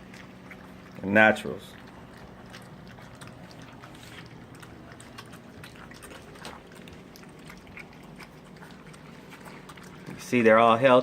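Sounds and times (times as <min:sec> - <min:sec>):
puppies lapping food: 0:00.0 - 0:11.0.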